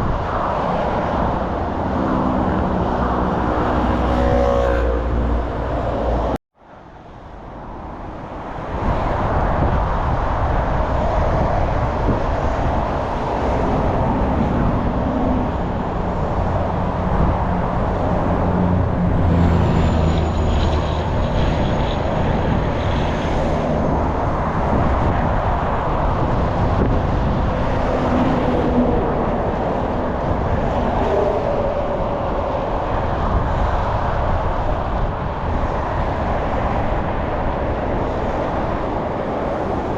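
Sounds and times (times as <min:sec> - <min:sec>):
road traffic noise: 0:00.0 - 0:39.9.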